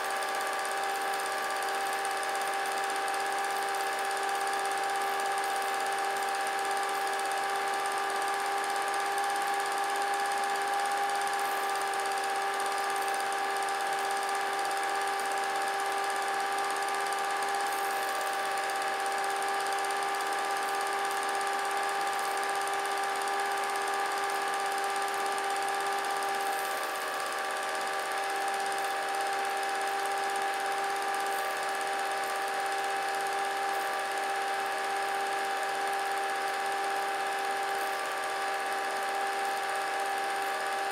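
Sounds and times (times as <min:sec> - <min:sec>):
small electric motor whining: 0:00.0 - 0:40.9.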